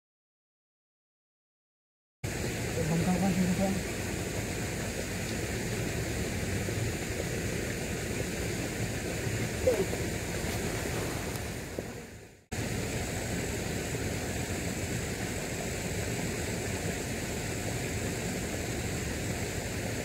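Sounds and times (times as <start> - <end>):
river rushing: 2.3 - 20.0.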